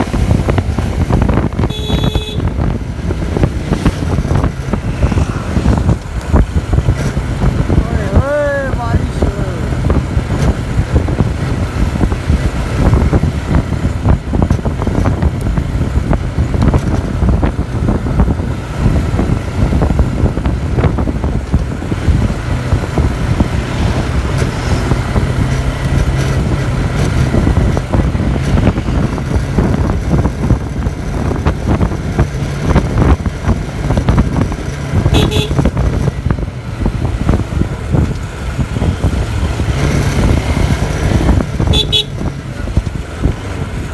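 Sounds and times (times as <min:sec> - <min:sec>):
vehicle engines rumbling in traffic: 0:00.0 - 0:43.9.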